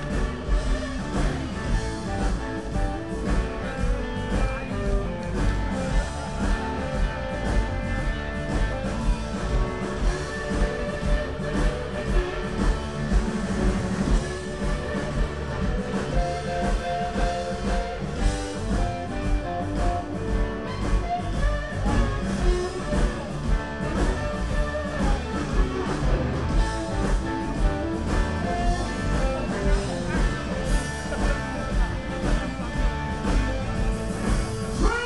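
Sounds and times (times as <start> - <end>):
live blues band playing: 0.0 - 35.0.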